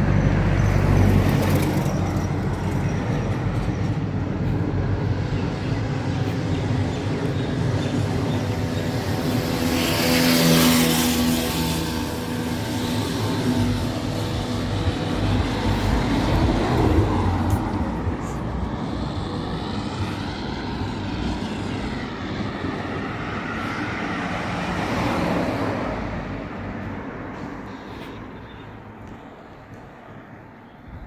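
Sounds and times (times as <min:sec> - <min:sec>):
vehicle engine passing: 0:00.0 - 0:28.1.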